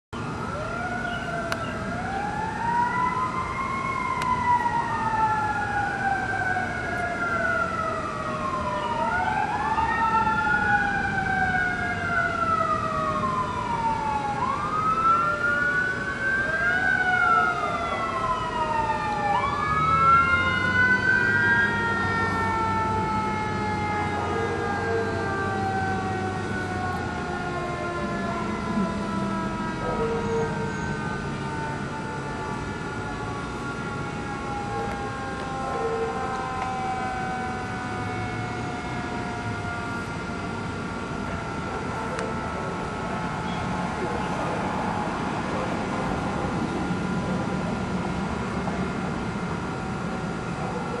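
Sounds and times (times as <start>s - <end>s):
fire engine sirens wailing: 0.2s - 51.0s.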